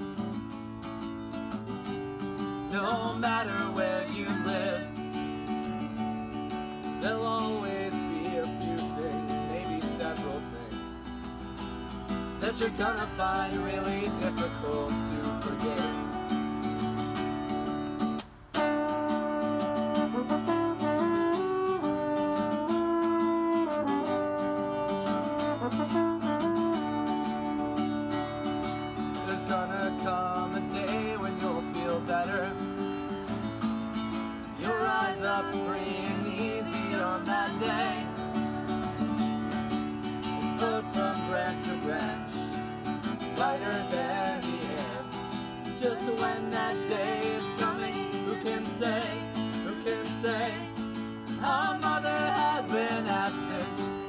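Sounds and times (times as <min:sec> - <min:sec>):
strummed acoustic guitar: 0:00.0 - 0:54.0.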